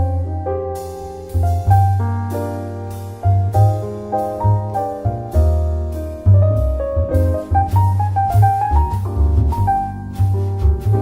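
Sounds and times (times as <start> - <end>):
deep bass line: 0.0 - 11.0
keyboard chords: 0.0 - 11.0.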